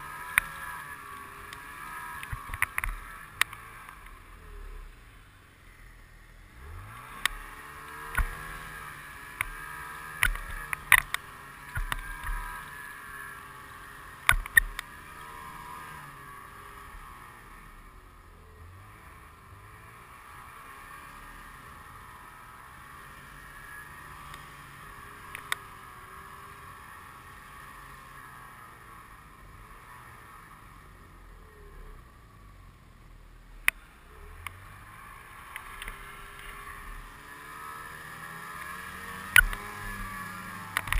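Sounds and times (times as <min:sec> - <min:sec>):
snowmobile engine running: 0:00.0 - 0:05.0, 0:06.5 - 0:32.6, 0:33.2 - 0:40.9.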